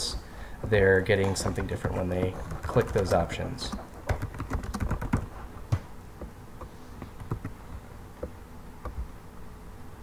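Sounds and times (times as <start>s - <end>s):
faint electrical buzz: 0.0s - 10.0s.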